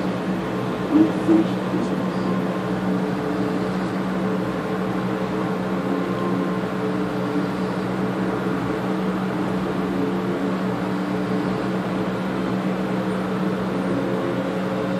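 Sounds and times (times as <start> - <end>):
aquarium pump humming: 0.0 - 14.9.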